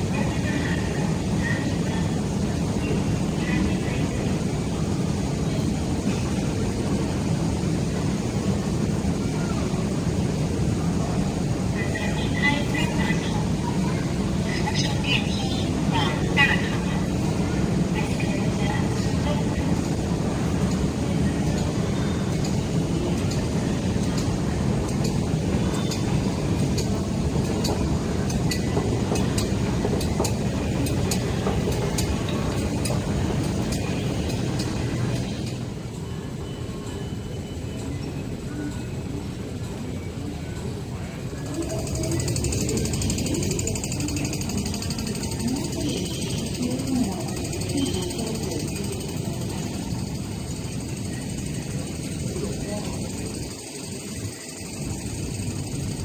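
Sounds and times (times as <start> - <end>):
underground station background rumble: 0.0 - 56.0.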